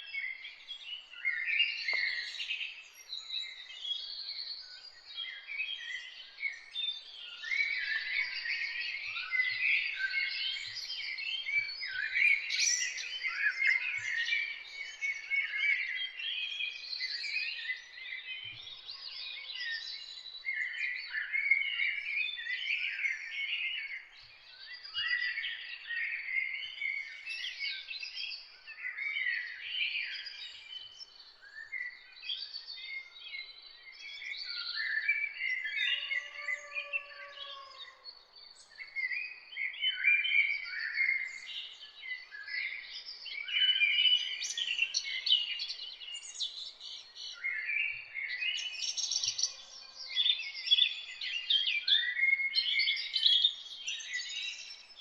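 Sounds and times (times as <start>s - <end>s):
songbirds chorus: 0.0s - 55.0s.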